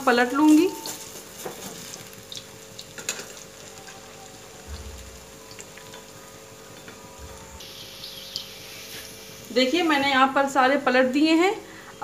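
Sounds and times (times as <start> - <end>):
food deep-frying in hot oil: 0.0 - 11.6.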